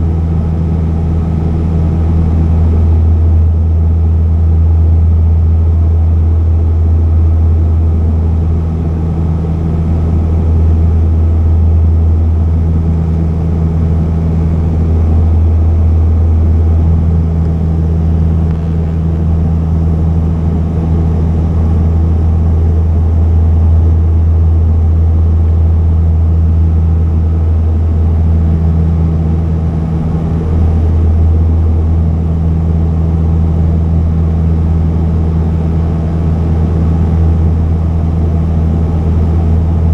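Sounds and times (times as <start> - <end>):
higher hum: 0.0 - 39.9
propeller plane engine drone: 0.0 - 39.9.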